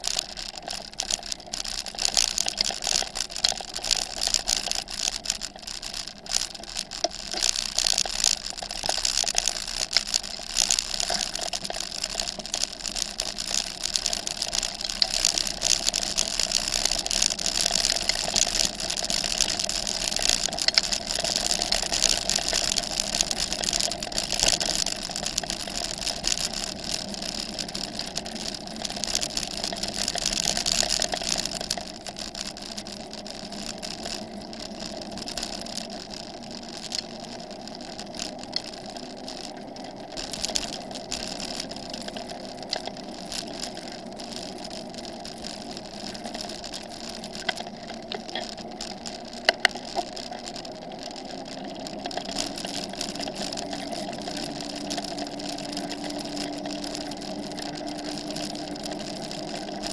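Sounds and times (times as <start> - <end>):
bicycle tyres crunching on gravel: 0.0 - 59.9.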